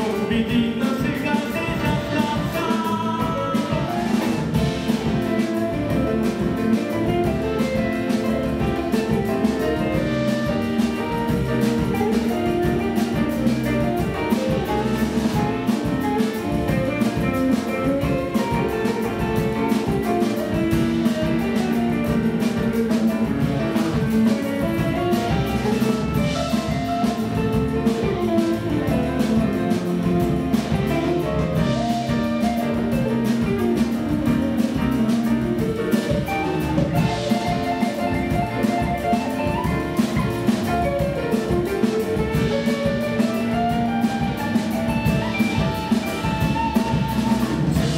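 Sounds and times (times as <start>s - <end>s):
double bass: 0.0s - 47.9s
drum kit: 0.0s - 47.9s
electric guitar: 0.0s - 47.9s.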